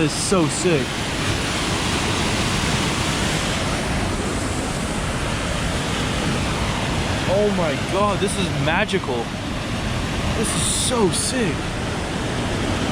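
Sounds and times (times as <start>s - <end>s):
fast-flowing creek water: 0.0s - 12.9s
waterfall rushing: 0.0s - 12.9s.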